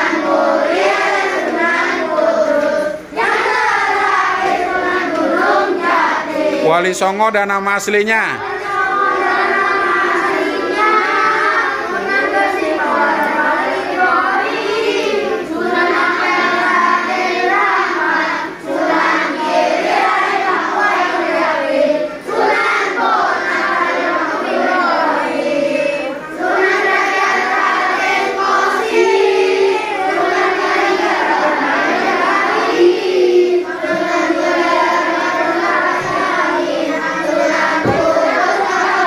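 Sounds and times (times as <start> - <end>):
children singing in unison: 0.0 - 7.3, 8.1 - 39.0.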